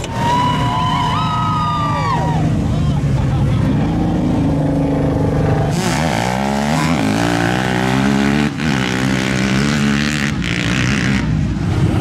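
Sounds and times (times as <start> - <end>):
engines revving hard: 0.0 - 12.0.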